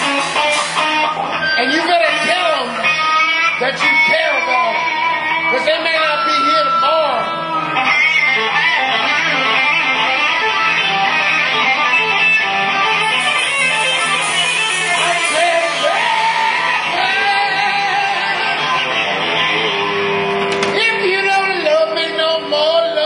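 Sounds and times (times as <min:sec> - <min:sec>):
blues band playing: 0:00.0 - 0:23.0
electric guitar: 0:00.0 - 0:23.0.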